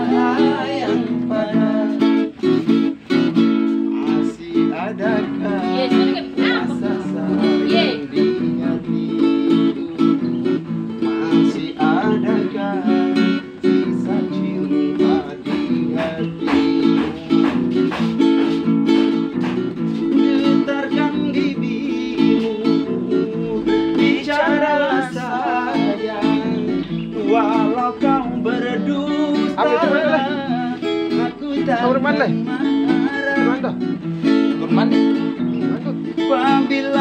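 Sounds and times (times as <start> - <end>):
acoustic guitar chords: 0.0 - 37.0
person singing: 0.0 - 37.0.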